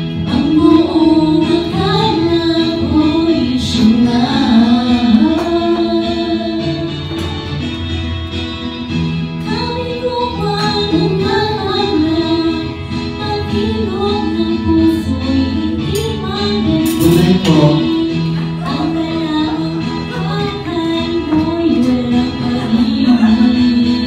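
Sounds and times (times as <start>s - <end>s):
woman singing into microphone: 0.0s - 7.6s, 9.4s - 24.0s
instrumental backing track: 0.0s - 24.0s.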